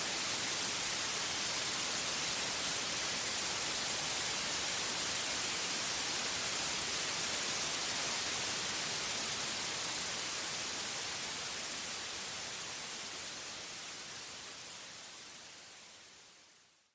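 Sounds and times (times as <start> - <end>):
white noise hiss: 0.0 - 16.9.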